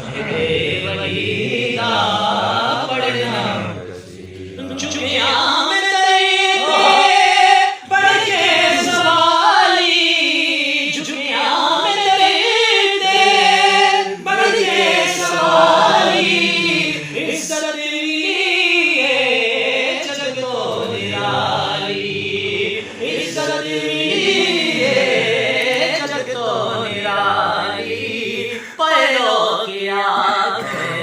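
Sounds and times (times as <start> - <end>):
choir singing devotional song: 0.0 - 31.0.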